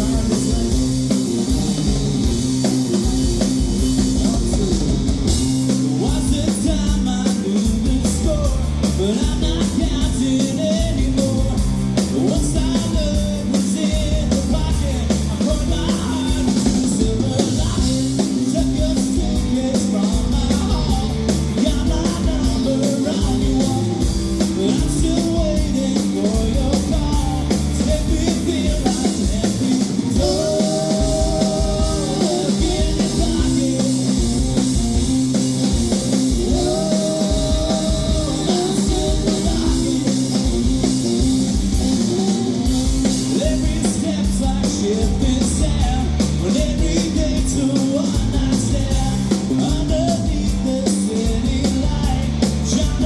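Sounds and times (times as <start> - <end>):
person singing: 0.0 - 1.2, 5.6 - 34.5, 36.1 - 40.7, 41.7 - 53.0
amplified guitars: 0.0 - 53.0
drum kit: 0.0 - 53.0.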